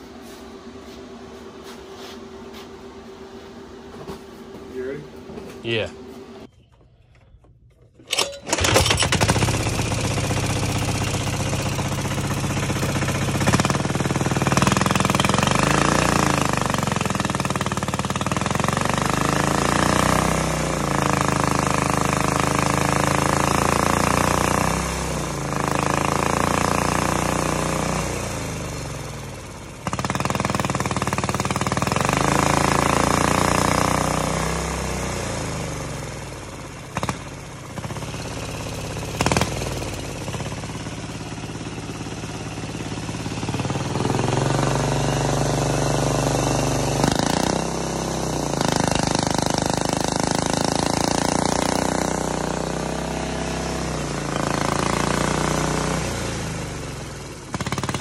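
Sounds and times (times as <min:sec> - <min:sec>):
diesel engine revving: 0:08.1 - 0:58.0.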